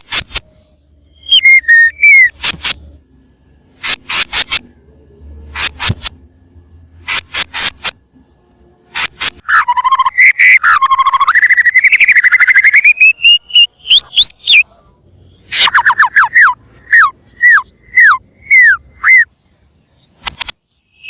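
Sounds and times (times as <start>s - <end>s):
bird singing trills and whistles: 0.3s - 7.2s, 8.9s - 21.0s.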